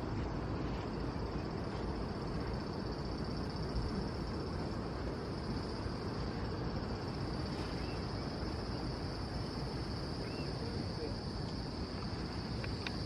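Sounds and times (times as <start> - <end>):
wind on the microphone: 0.0 - 13.0
high-pitched insect drone: 2.1 - 13.0.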